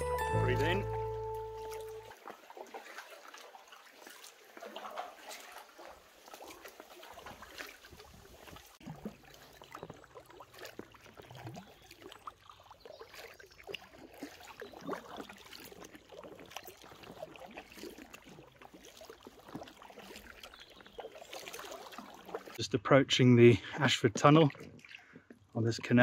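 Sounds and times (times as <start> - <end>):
paddles dipping into water: 0.0 - 22.6, 23.8 - 26.0.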